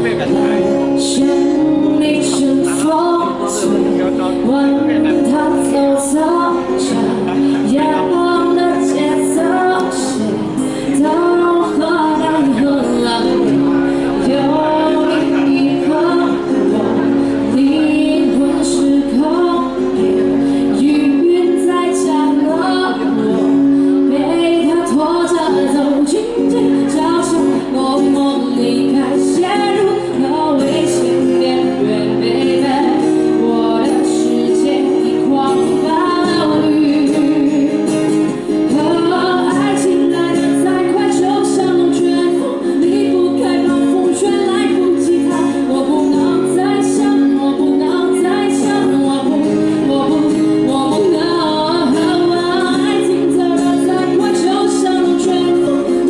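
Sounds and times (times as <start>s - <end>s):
acoustic guitars playing chords: 0.0s - 56.0s
woman singing pop song: 0.0s - 56.0s.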